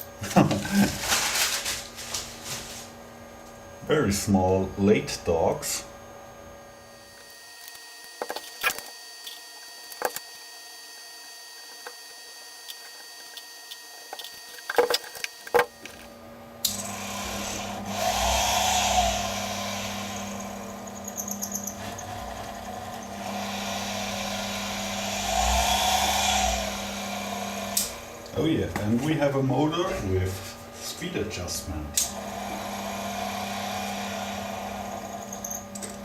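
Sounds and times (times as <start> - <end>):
electric motor humming: 6.8 - 36.0.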